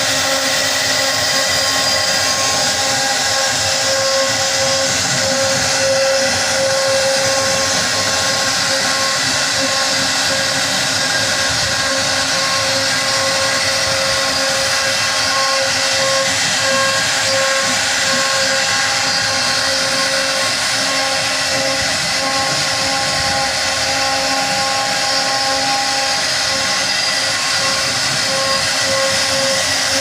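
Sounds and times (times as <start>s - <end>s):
hiss of wood cutting: 0.0s - 30.0s
router spindle whine: 0.0s - 30.0s.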